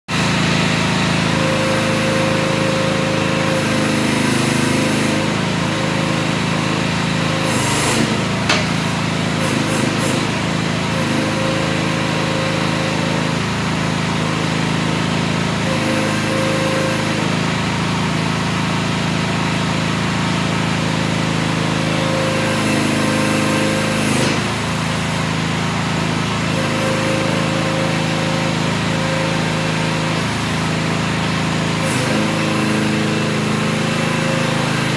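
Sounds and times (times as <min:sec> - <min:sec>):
excavator engine running: 0:00.1 - 0:34.9.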